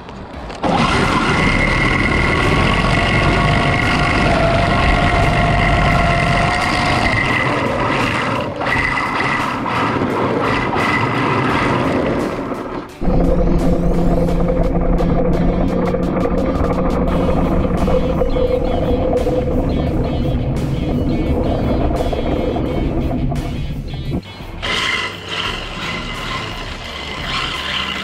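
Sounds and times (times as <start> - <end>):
electric motor whining: 0.6 - 28.0.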